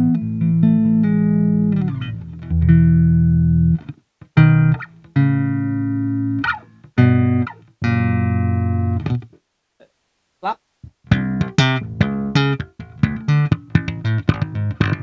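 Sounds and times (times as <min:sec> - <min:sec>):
electric bass plucked notes: 0:00.0 - 0:09.3, 0:10.8 - 0:15.0.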